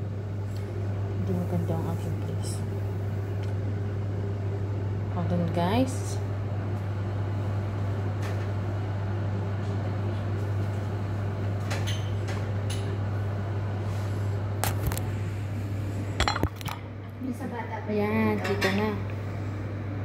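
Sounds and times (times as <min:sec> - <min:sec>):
low equipment hum: 0:00.0 - 0:20.0.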